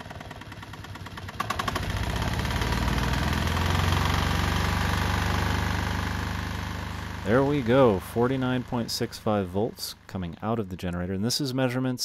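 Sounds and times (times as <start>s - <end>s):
diesel generator starting: 0.0s - 11.0s.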